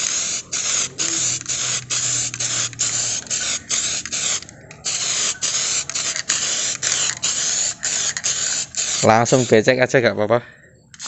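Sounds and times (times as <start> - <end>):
aerosol spray can hissing: 0.0 - 9.7.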